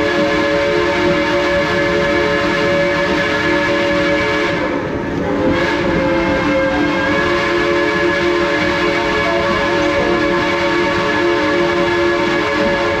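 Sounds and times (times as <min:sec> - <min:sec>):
steam locomotive whistle: 0:00.0 - 0:13.0.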